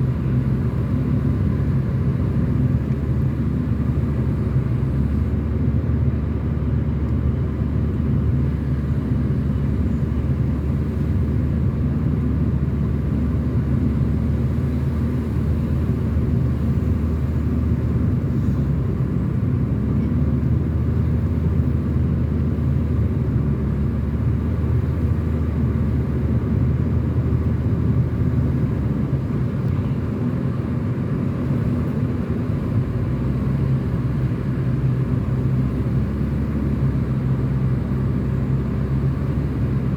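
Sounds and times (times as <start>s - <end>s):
car engine and road hum: 0.0s - 39.9s.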